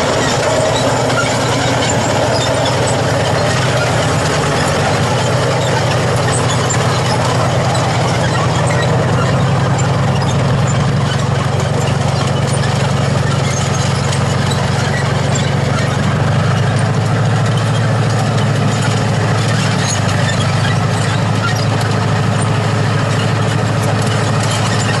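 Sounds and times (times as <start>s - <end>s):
tank engine rumbling: 0.0s - 25.0s.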